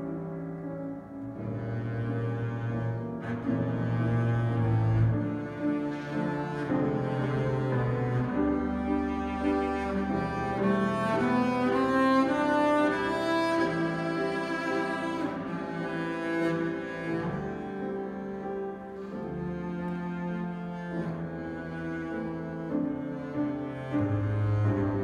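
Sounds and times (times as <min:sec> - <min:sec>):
bowed double bass: 0:00.0 - 0:25.0
piano chords: 0:00.0 - 0:25.0.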